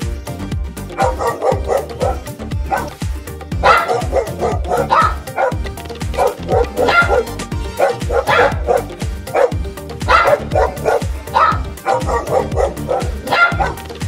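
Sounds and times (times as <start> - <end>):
background music: 0.0 - 14.0
dog barking: 1.0 - 3.0, 3.6 - 5.6, 6.2 - 14.0.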